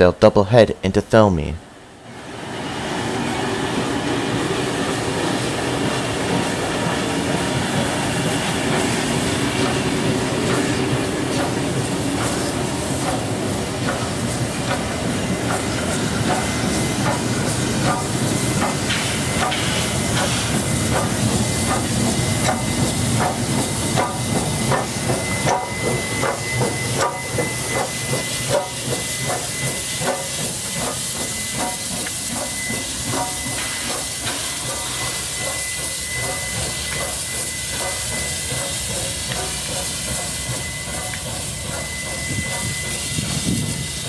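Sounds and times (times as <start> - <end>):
steam hissing: 2.2 - 44.0
train wheels clicking over rail joints: 4.4 - 44.0.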